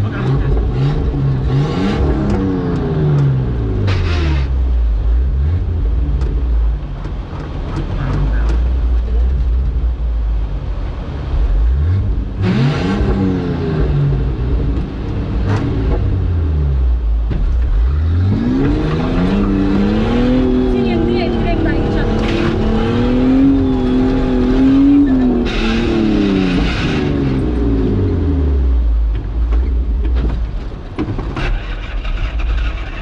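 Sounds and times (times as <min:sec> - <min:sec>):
engine revving: 0:00.0 - 0:30.4, 0:31.3 - 0:33.0.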